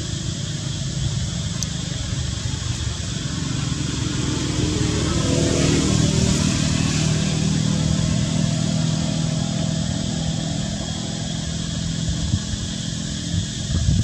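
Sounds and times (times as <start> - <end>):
motor engine humming: 0.0 - 14.0.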